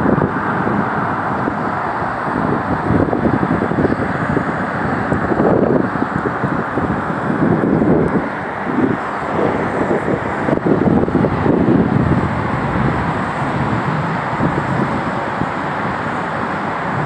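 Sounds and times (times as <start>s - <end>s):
distant city traffic rumble: 0.0s - 17.0s
wind buffeting microphone: 0.0s - 17.0s.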